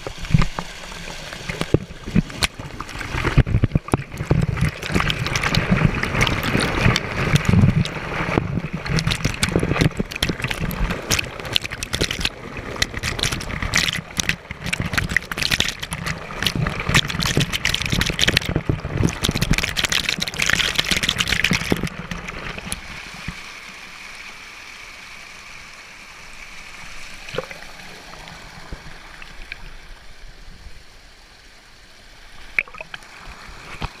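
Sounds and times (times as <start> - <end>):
waterfall rushing and splashing: 0.0 - 29.1.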